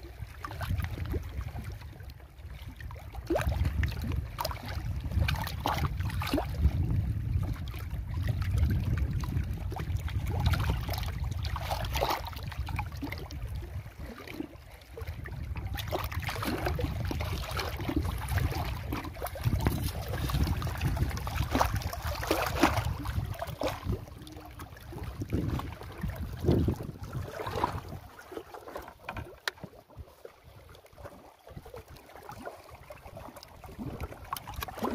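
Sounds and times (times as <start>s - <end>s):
lake water lapping and splashing: 0.0s - 34.9s
wind rumbling on microphone: 0.0s - 34.9s.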